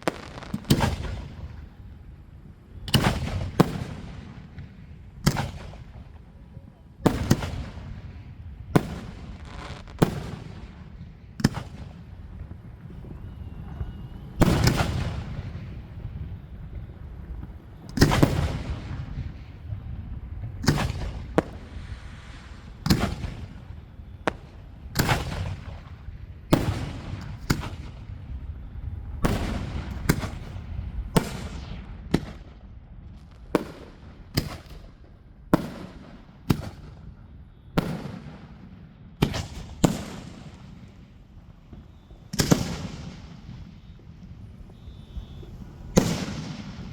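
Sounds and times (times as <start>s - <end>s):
fireworks bangs: 0.0s - 46.9s.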